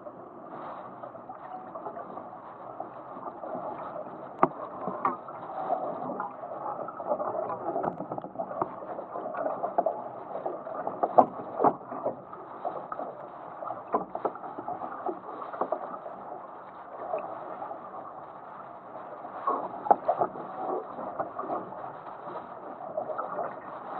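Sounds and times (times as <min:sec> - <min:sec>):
water rushing along a boat hull: 0:00.0 - 0:23.9.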